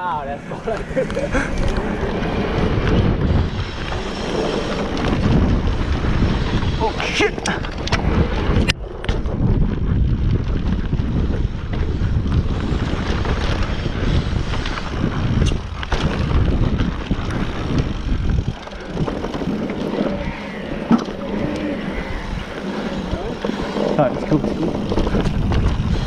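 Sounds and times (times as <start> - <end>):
mountain bike ride rumble: 0.0 - 26.0
wind buffeting microphone: 0.0 - 26.0.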